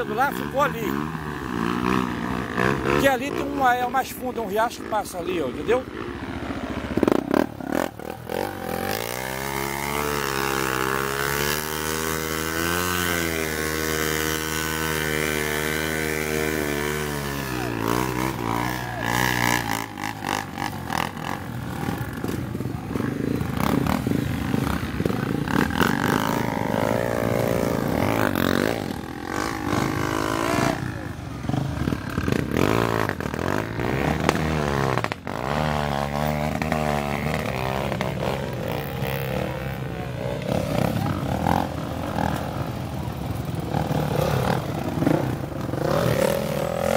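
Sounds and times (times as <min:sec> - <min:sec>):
dirt bike engines revving: 0:00.0 - 0:46.9
dirt bike revving close by: 0:00.0 - 0:46.9.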